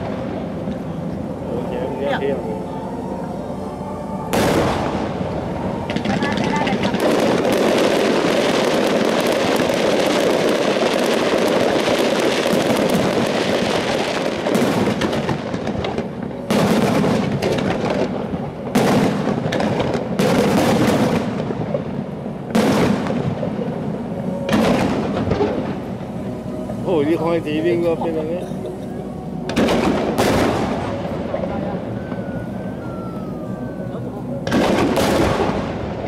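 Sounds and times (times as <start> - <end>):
fireworks bursting and crackling: 0.0 - 3.5, 4.2 - 36.0.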